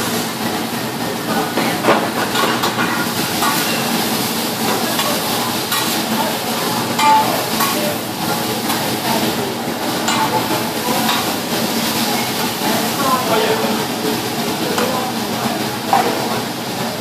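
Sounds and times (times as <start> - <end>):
food sizzling on griddle: 0.0 - 17.0.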